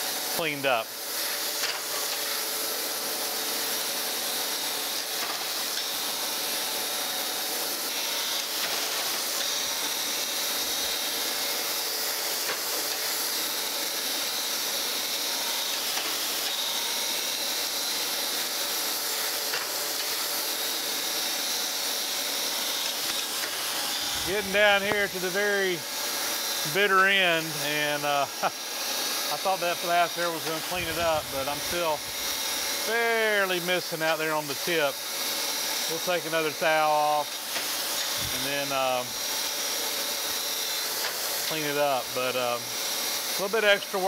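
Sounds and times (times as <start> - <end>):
faint machine hum: 0.0 - 43.9
grinding wheel hissing on metal: 0.0 - 44.0.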